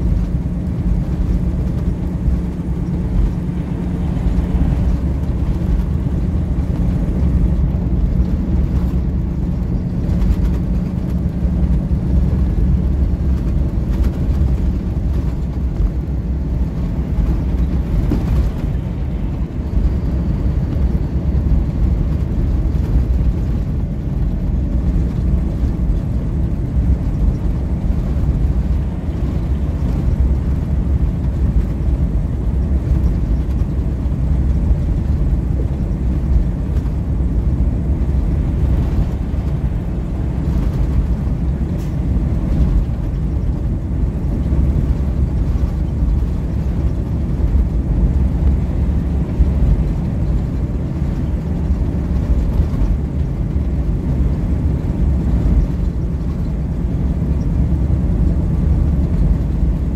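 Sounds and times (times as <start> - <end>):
engine and tyres rumbling in cab: 0.0 - 59.9.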